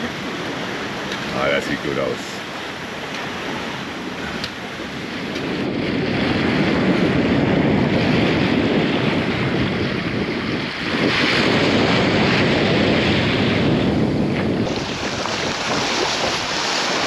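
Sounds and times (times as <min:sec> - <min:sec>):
water rushing past hull: 0:00.0 - 0:17.0
wind buffeting microphone: 0:00.0 - 0:17.0.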